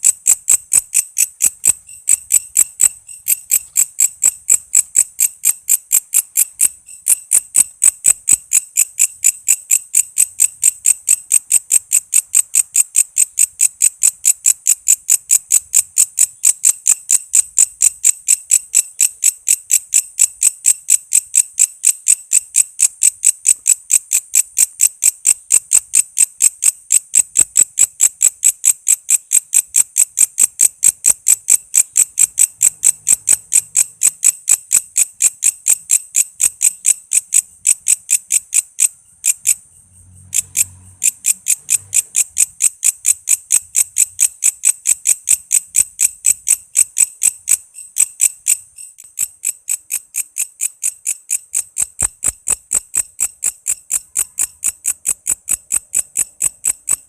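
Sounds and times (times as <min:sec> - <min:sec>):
katydid chirping: 0:00.0 - 0:57.0.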